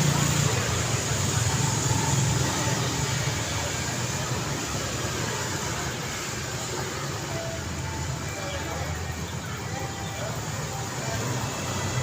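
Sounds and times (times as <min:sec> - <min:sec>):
road traffic wash: 0:00.0 - 0:12.0.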